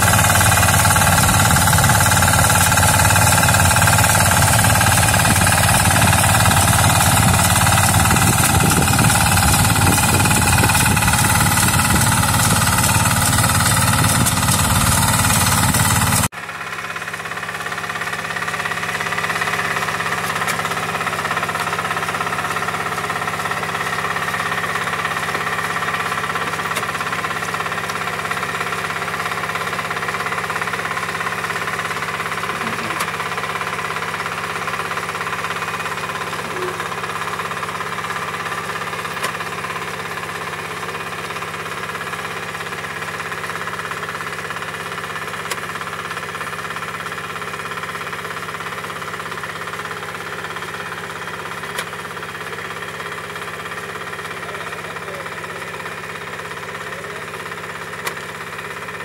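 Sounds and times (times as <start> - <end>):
rice transplanter engine running: 0.0 - 59.0.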